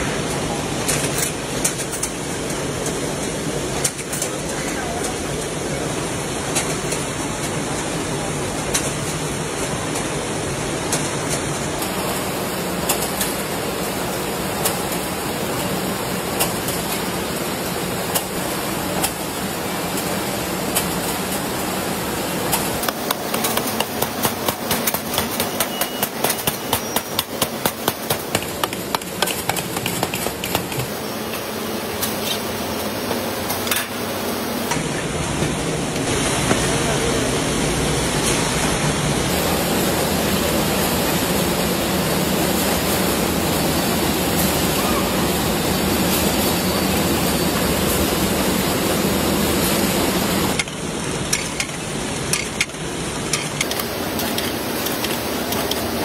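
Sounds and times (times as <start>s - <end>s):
factory machinery running: 0.0s - 56.0s.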